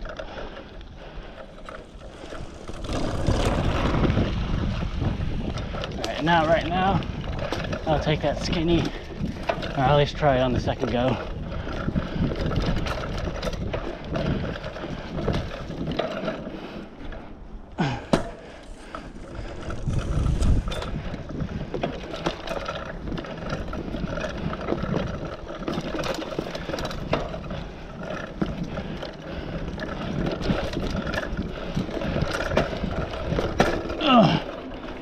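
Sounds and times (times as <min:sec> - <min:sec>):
bike rattling and clicking: 0:00.0 - 0:35.0
tyres rolling over dirt: 0:00.0 - 0:35.0.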